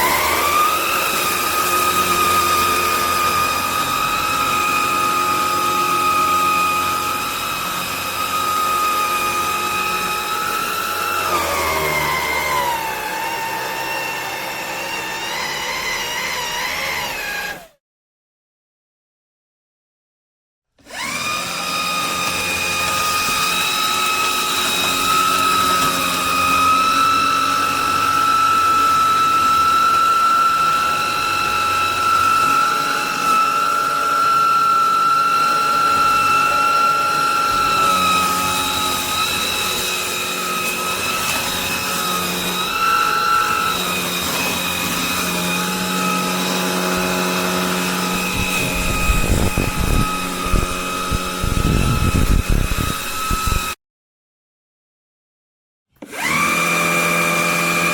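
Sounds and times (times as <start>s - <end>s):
vacuum cleaner motor whine: 0.0s - 17.8s, 20.8s - 53.8s, 56.0s - 57.9s.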